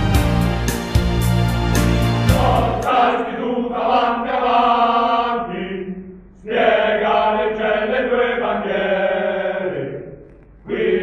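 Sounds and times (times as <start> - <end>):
voices singing in chorus: 2.1 - 11.0.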